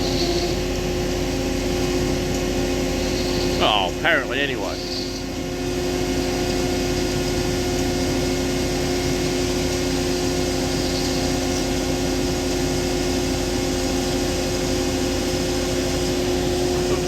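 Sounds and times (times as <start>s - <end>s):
diesel machinery engine drone: 0.0s - 17.0s.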